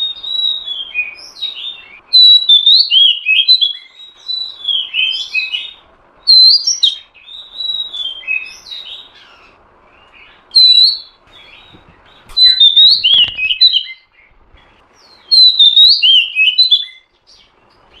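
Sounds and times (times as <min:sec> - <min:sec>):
bird calling with whistled notes: 0:00.0 - 0:18.0.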